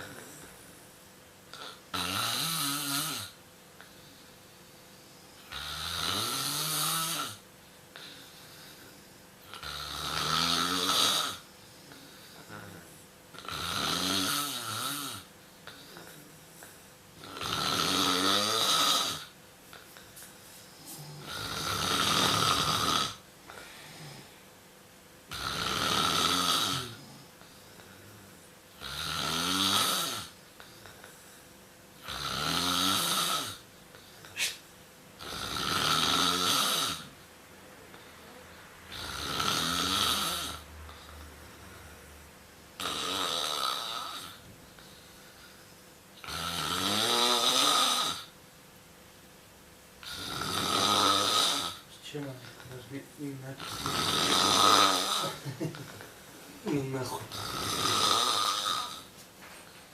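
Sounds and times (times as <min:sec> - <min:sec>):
pet snoring: 0:01.5 - 0:04.2, 0:04.9 - 0:19.8, 0:20.8 - 0:24.4, 0:25.3 - 0:31.4, 0:32.0 - 0:34.6, 0:35.2 - 0:37.2, 0:37.9 - 0:42.1, 0:42.8 - 0:48.4, 0:50.0 - 0:56.1, 0:56.7 - 0:59.1.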